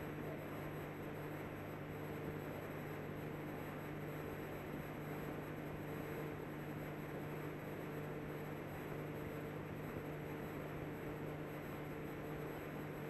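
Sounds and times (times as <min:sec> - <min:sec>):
recording hiss and hum: 0:00.0 - 0:13.0.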